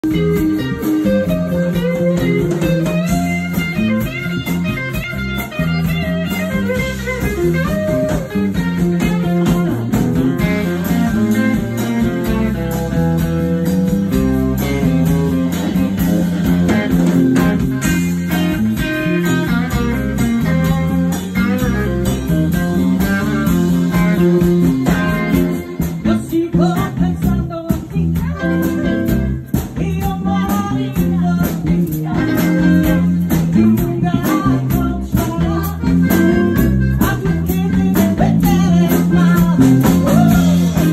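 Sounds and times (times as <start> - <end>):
bass and drums: 0.0 - 40.9
blues electric guitar: 0.0 - 40.9.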